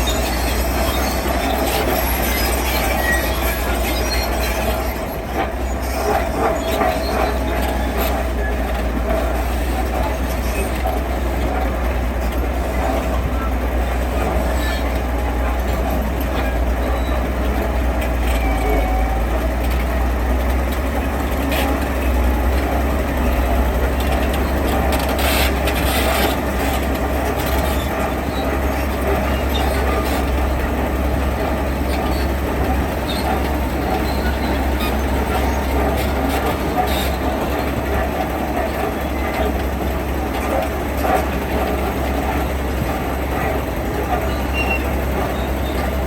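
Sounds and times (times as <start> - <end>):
diesel construction machinery rumbling: 0.0 - 46.0.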